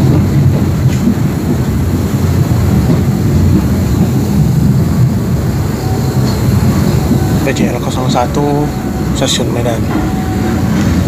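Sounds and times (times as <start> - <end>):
train running heard from inside: 0.0 - 11.0.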